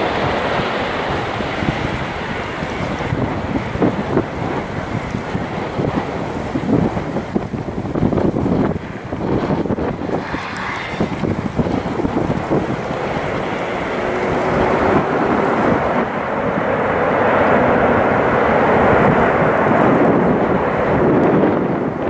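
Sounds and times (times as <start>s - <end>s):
distant jet engine roar: 0.0s - 22.0s.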